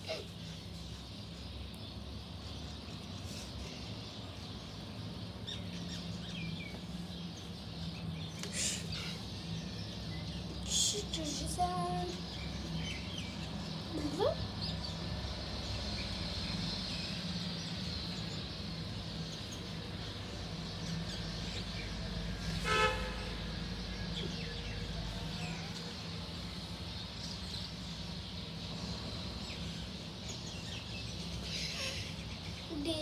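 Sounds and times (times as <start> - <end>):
city background hum: 0.0 - 33.0.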